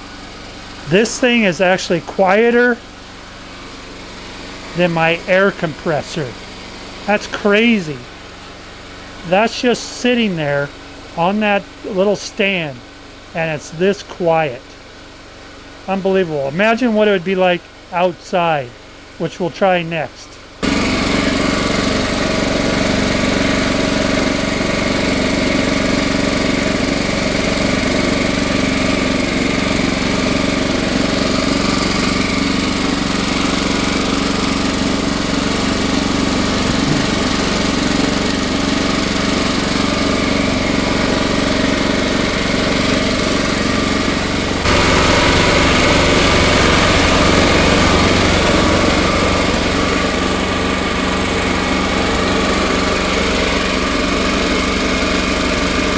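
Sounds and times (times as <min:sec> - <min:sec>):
generator engine running: 0:00.0 - 0:55.9.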